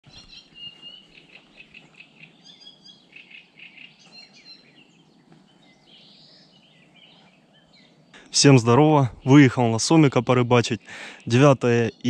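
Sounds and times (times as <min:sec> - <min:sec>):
songbirds chirping: 0:00.0 - 0:12.0
faint steady background noise: 0:00.1 - 0:12.0.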